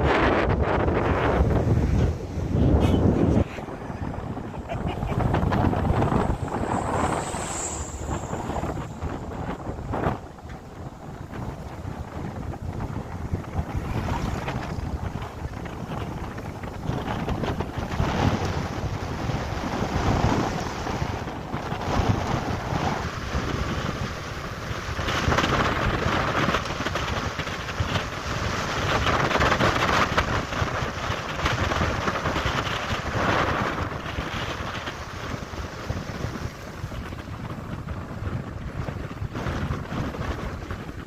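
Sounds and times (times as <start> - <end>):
moving vehicle running noise: 0.0 - 41.0
wind buffeting microphone: 0.0 - 41.0.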